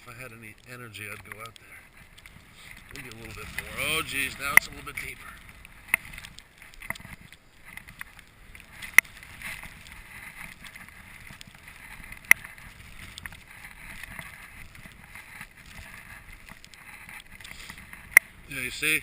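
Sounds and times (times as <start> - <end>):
footsteps in deep snow: 0.0 - 18.6
wind noise on microphone: 1.9 - 19.0.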